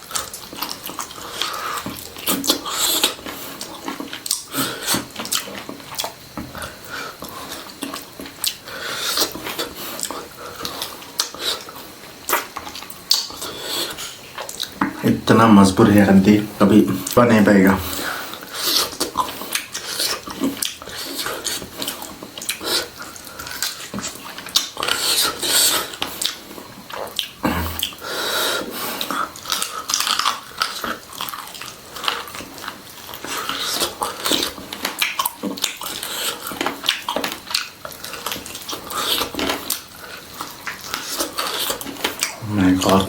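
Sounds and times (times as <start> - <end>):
chewing on crunchy bones: 0.0 - 15.0, 17.8 - 43.0.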